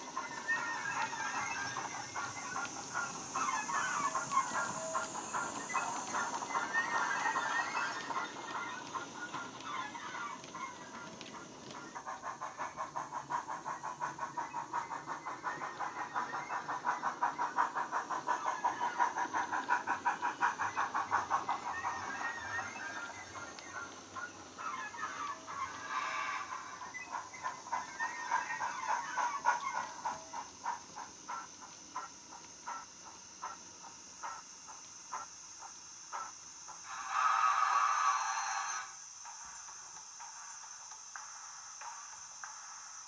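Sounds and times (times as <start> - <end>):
steam hissing: 0.0 - 43.0
steam locomotive chuffs: 0.0 - 43.0.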